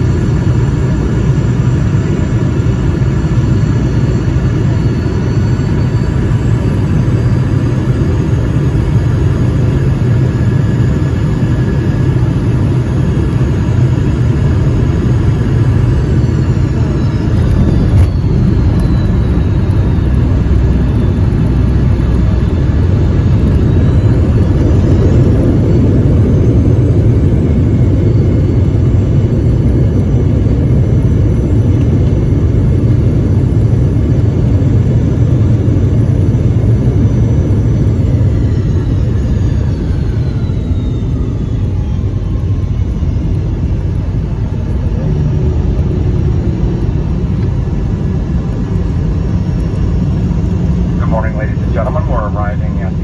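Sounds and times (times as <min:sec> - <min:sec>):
jet cabin engine rumble: 0:00.0 - 0:53.0
jet engine whine: 0:00.0 - 0:53.0.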